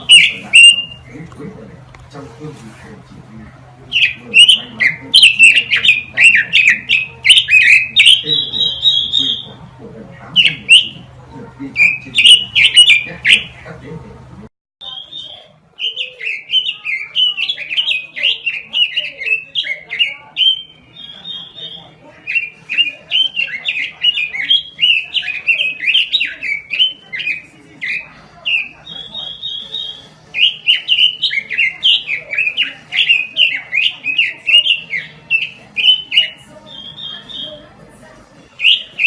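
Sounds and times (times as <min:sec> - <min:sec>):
buzzy bird trill: 0:00.0 - 0:01.1, 0:03.9 - 0:09.6, 0:11.8 - 0:13.7, 0:14.8 - 0:37.7, 0:38.6 - 0:39.0
songbird singing: 0:00.0 - 0:01.4, 0:03.9 - 0:09.6, 0:10.2 - 0:13.8, 0:14.8 - 0:37.7, 0:38.6 - 0:39.0.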